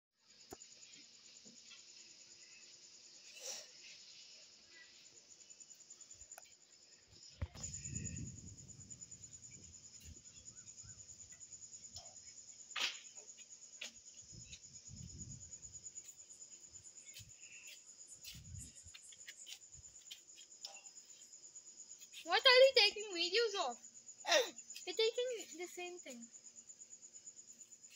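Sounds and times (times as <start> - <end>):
crickets trilling: 0.2 - 27.9.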